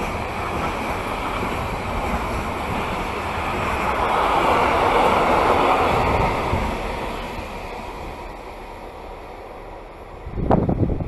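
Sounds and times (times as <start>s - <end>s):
wind buffeting microphone: 0.0s - 8.4s, 10.1s - 11.0s
freight train rolling past: 0.0s - 11.0s.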